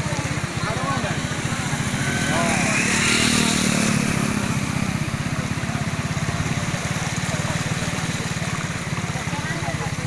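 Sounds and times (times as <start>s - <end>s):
small engine chugging: 0.0s - 10.0s.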